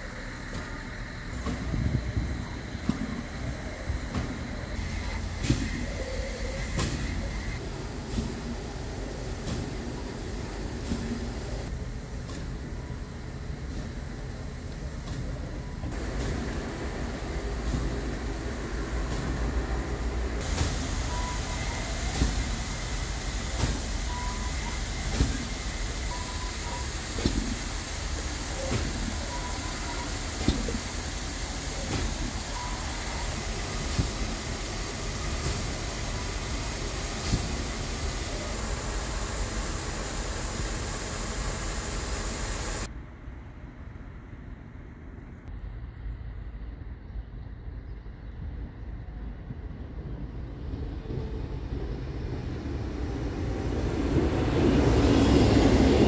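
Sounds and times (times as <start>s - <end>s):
steam hissing: 0.0s - 42.9s, 51.0s - 56.0s.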